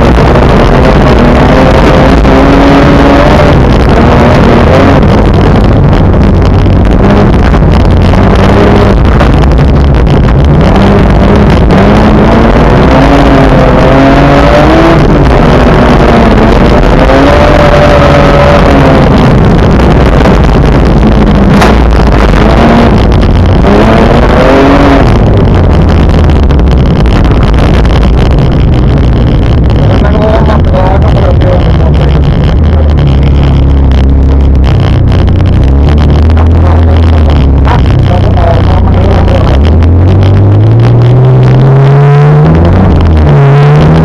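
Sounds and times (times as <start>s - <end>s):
car engine revving: 0.0s - 44.0s
tyre and road noise: 0.0s - 44.0s.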